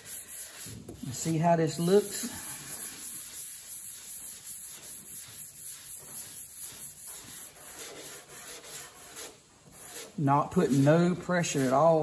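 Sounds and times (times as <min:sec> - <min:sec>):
sandpaper rubbing: 0:00.0 - 0:12.0.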